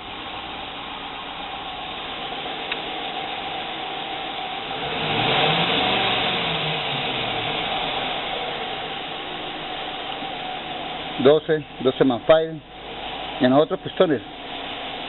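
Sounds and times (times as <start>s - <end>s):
engine idling with misfire: 0.0s - 15.0s.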